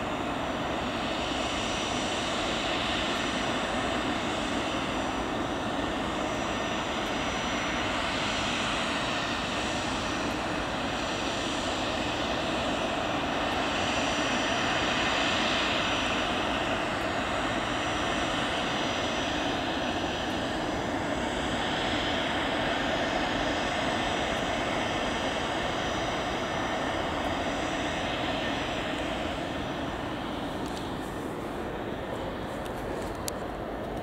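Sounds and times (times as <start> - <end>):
jet engines rushing and whining: 0.0 - 34.0.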